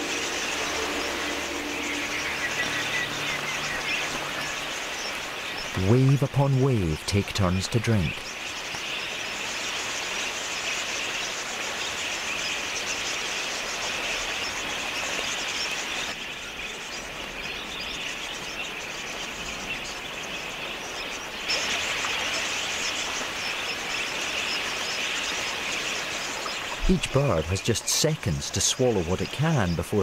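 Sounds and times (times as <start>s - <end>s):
budgerigars chattering: 0.0s - 30.0s.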